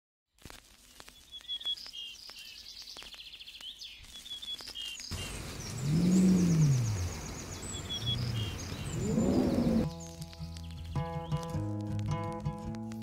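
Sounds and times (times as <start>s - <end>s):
small birds chirping and trilling: 1.1s - 11.7s.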